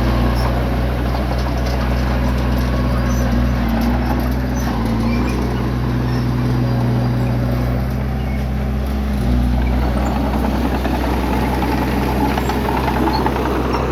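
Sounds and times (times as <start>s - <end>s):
bulldozer diesel engine running: 0.0s - 13.9s.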